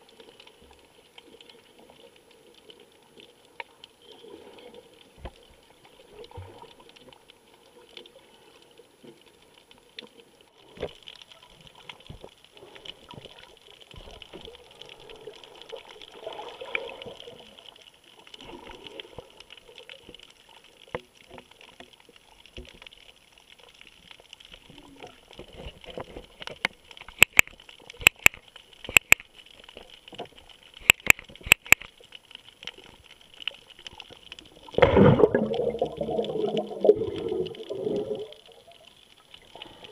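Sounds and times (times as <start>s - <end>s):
underwater hiss and crackle: 0.0s - 39.9s.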